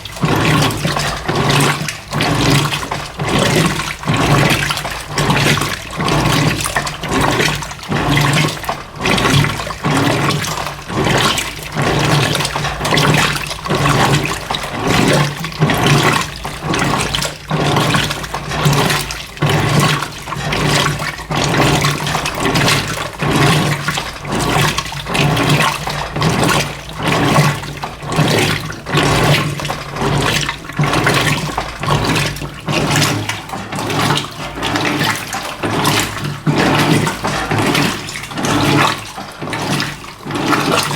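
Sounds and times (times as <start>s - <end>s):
washing machine motor hum: 0.0s - 40.9s
washing machine water sloshing: 0.0s - 40.9s.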